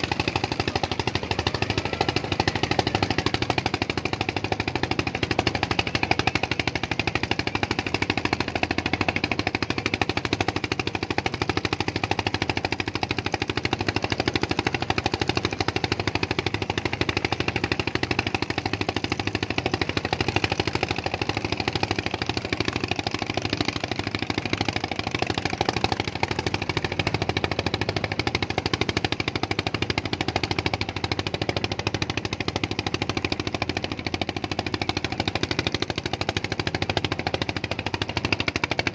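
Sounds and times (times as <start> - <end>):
small engine chugging: 0.0 - 38.9.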